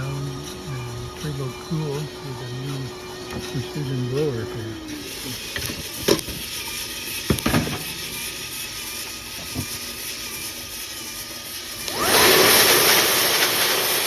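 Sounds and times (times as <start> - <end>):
coffee roaster mechanical whir: 0.0 - 14.0.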